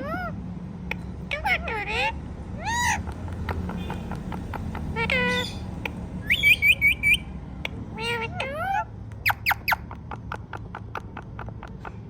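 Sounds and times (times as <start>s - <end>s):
parakeet calling: 0.0s - 12.0s.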